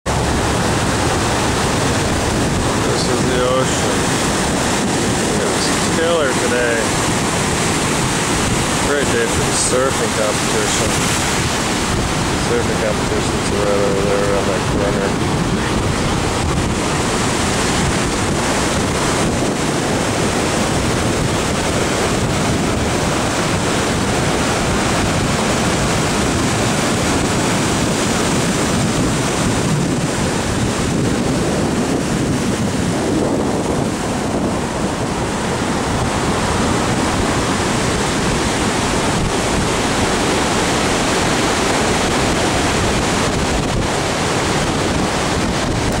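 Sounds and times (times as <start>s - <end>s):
surf breaking on rocky shore: 0.0s - 46.0s
wind buffeting microphone: 0.1s - 46.0s.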